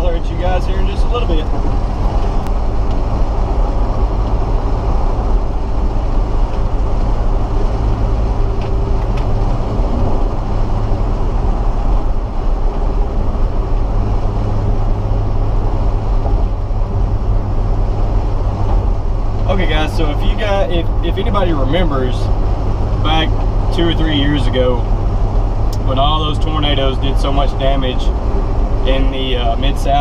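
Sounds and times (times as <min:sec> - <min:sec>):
road and engine rumble: 0:00.0 - 0:30.0.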